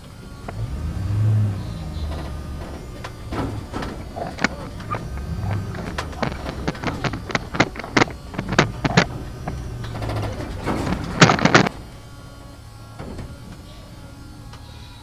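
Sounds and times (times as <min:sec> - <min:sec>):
machine humming: 0:00.0 - 0:15.0
sharp knocks and clatter: 0:01.3 - 0:13.7.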